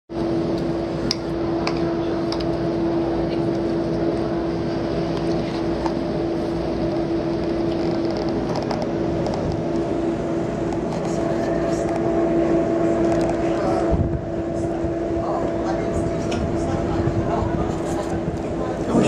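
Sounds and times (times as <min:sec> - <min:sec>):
machinery hum: 0:00.1 - 0:19.0.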